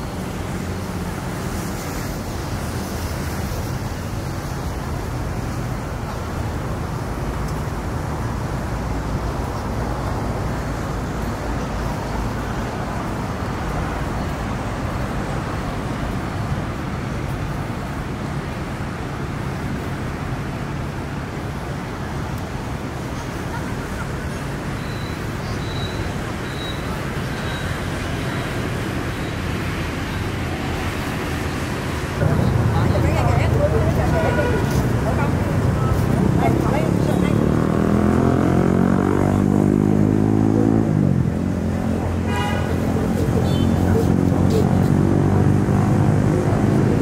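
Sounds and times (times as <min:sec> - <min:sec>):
city road traffic: 0:00.0 - 0:47.0.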